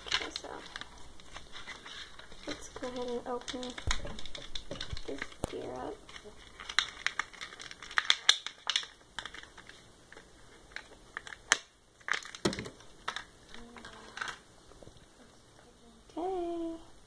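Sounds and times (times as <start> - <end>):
plastic packaging crinkling: 0.0 - 14.5.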